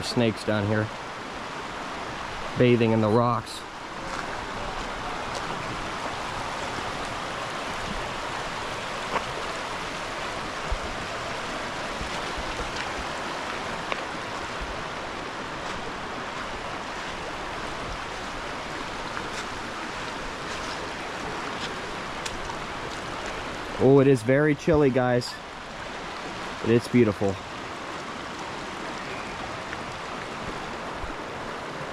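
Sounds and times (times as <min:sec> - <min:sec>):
water rushing over rocks: 0:00.0 - 0:31.9.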